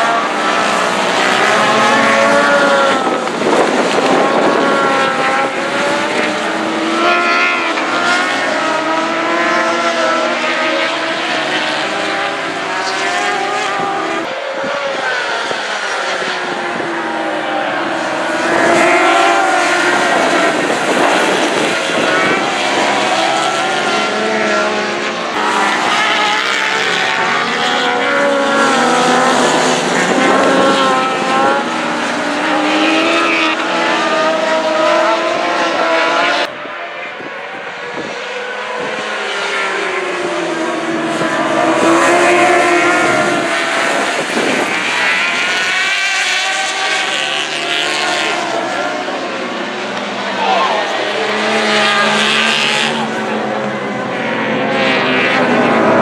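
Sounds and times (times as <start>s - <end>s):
racing motorcycles passing: 0.0s - 56.0s.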